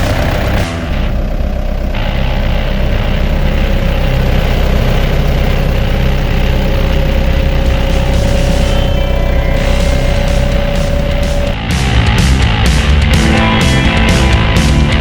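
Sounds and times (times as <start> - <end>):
diesel engine idling: 0.0 - 15.0
steady whine: 0.0 - 15.0.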